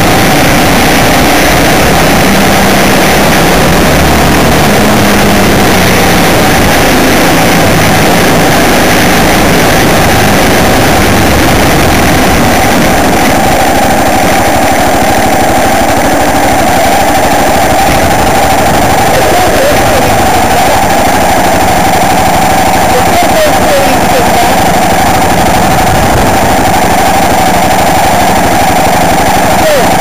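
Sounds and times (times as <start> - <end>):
tyres on gravel track: 0.0 - 30.0
vehicle engine: 0.0 - 30.0.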